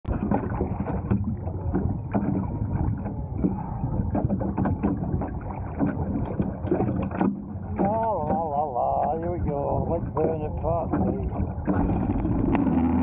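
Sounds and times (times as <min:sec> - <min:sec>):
small splashes: 0:00.1 - 0:13.0
water sloshing against board: 0:00.1 - 0:13.0.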